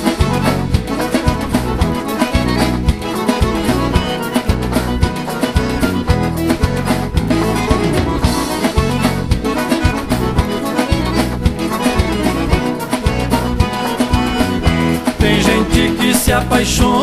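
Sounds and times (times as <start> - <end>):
accordion: 0.0 - 17.0
bass and drum beat: 0.0 - 17.0
guitar: 0.0 - 17.0.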